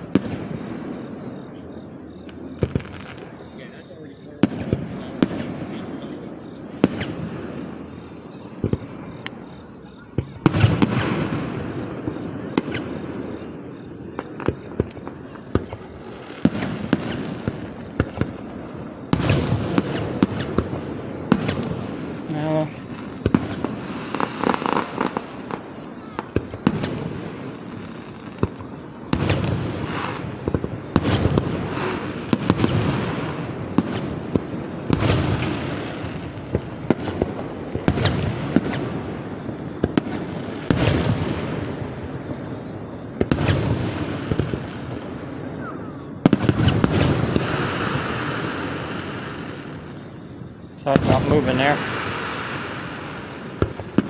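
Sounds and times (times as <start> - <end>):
fireworks bursting with echo: 0.0 - 54.0.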